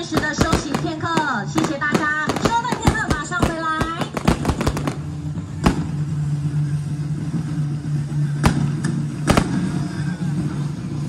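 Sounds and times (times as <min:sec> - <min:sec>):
fireworks bangs and crackles: 0:00.0 - 0:11.0
steady low hum: 0:00.0 - 0:11.0.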